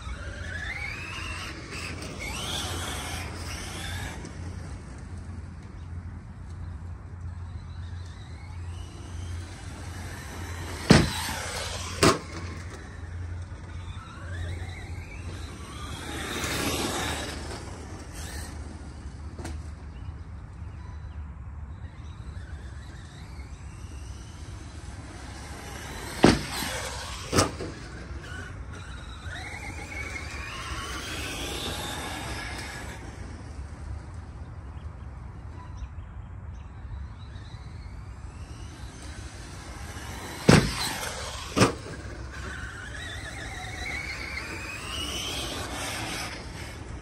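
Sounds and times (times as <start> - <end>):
electric motor whining: 0.0 - 21.1, 21.7 - 35.1, 36.9 - 47.0.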